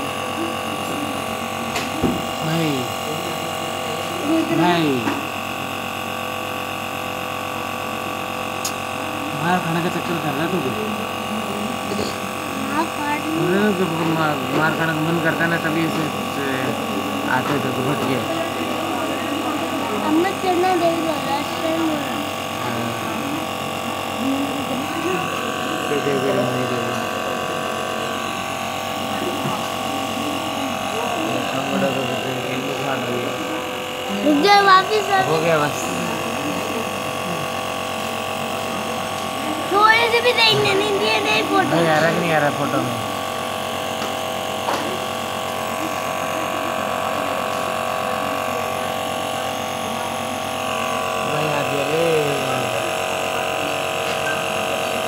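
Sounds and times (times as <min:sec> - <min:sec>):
nebulizer motor humming: 0:00.0 - 0:55.0.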